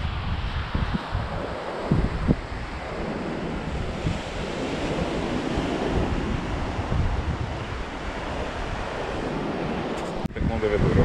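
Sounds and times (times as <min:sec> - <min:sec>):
small waves washing onto beach: 0:00.0 - 0:10.3
wind buffeting microphone: 0:00.0 - 0:11.0.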